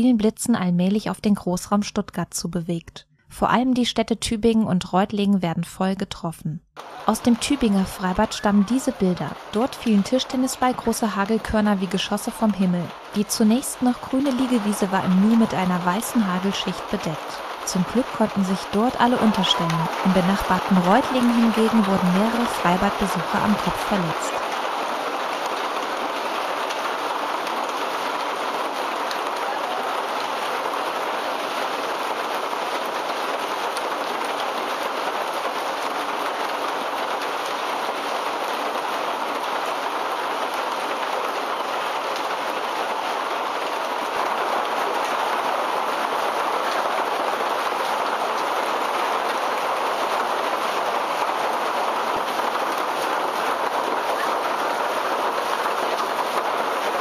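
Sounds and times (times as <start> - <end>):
hailstones pelting down: 6.8 - 57.0
rain rushing: 6.8 - 57.0.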